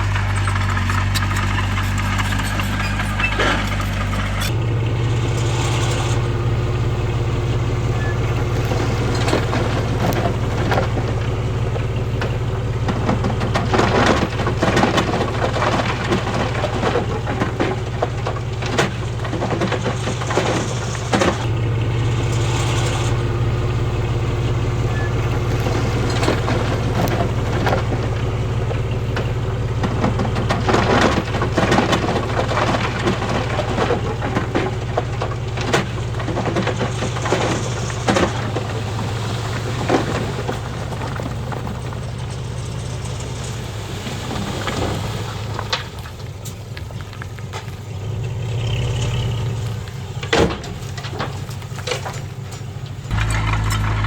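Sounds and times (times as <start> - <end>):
bulldozer diesel engine running: 0.0 - 54.0
stones crunching and knocking: 7.4 - 21.5, 23.6 - 54.0.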